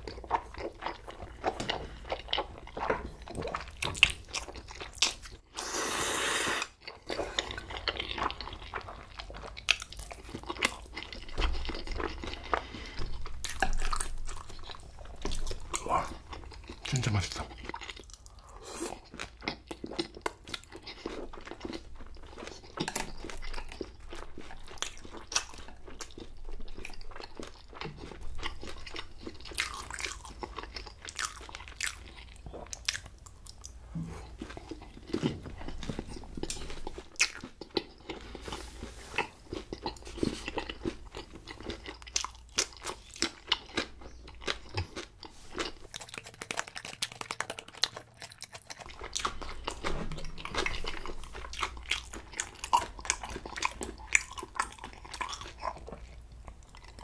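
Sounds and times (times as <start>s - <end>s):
crisp crunchy chewing: 6.6s - 57.0s.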